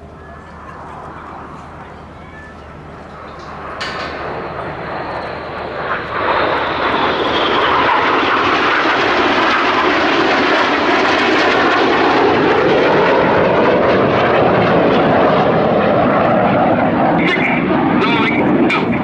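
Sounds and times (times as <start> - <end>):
jets flying past: 0.0 - 19.0.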